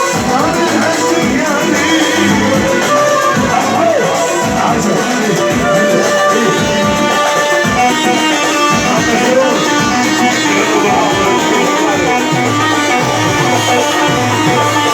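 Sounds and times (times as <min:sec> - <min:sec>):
instrumental band music: 0:00.0 - 0:14.9.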